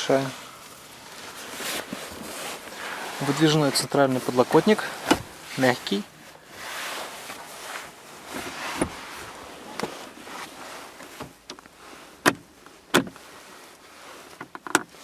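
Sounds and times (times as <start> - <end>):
handling rustling: 0.0 - 15.0.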